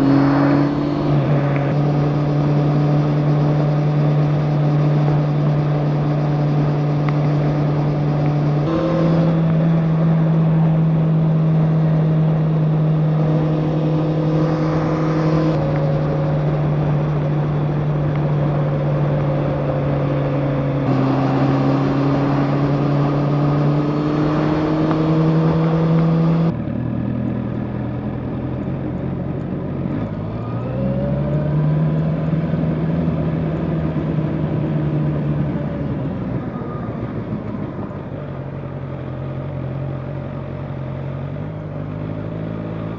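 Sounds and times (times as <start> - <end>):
motorcycle engine cruising: 0.0 - 42.9
road and wind noise: 0.0 - 42.9.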